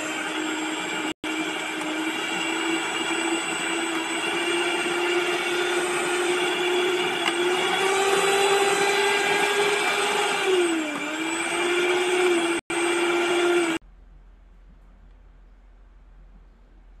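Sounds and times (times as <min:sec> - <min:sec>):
stand mixer motor whine: 0:00.0 - 0:13.8.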